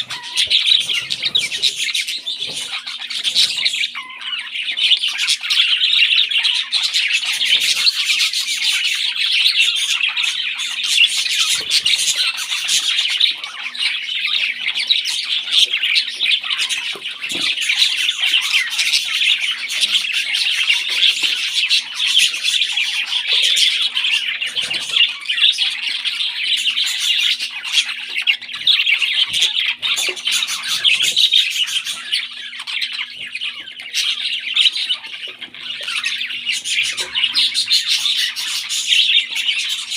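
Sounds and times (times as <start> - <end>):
parrot chicks chirping and squawking: 0.0 - 39.9.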